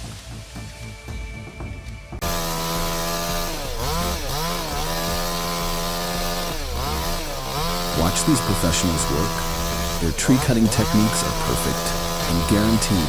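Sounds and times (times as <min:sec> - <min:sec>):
chainsaw cutting wood: 0:02.2 - 0:13.0.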